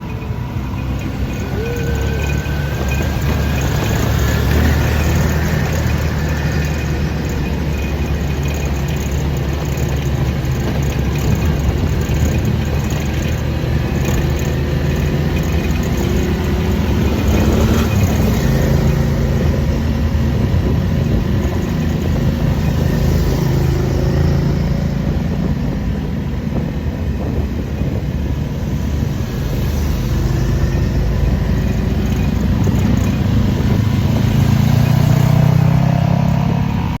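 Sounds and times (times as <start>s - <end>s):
vehicle engine revving: 0.0s - 37.0s.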